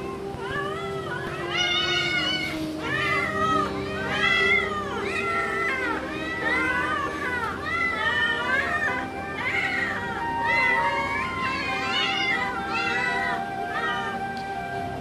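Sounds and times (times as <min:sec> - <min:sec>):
cat meowing: 0:00.1 - 0:14.5.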